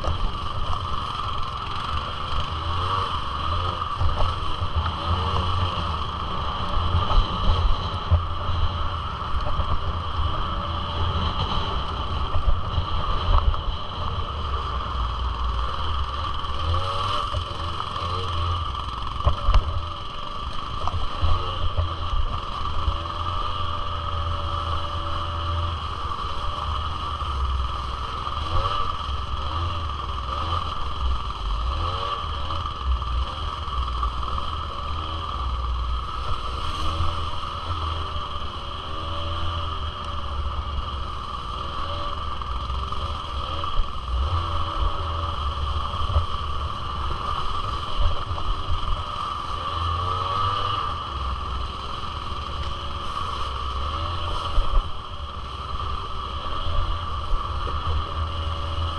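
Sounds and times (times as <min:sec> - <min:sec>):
small two-stroke engine revving: 0:00.0 - 0:58.9.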